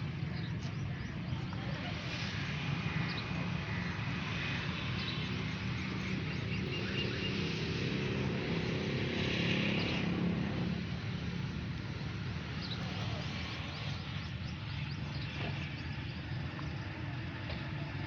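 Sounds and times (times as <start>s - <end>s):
outdoor background noise: 0.0s - 18.0s
steady engine drone: 0.0s - 18.0s.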